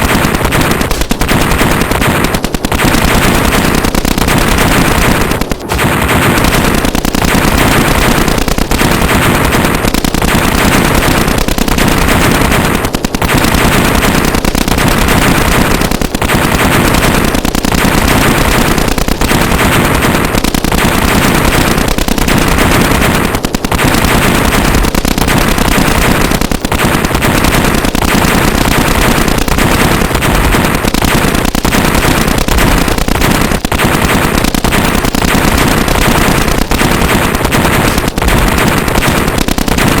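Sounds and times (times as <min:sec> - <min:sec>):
machine-gun fire: 0:00.0 - 0:40.0.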